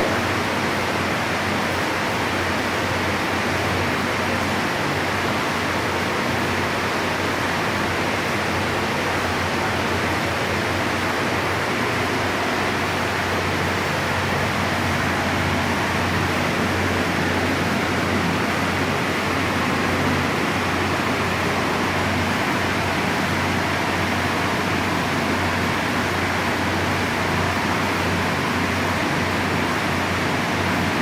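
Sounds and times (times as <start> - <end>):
heavy rain downpour: 0.0 - 31.0.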